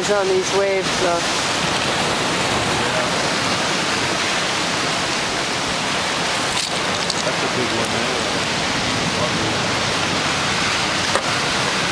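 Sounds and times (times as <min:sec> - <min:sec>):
ocean surf breaking over rocks: 0:00.0 - 0:11.9.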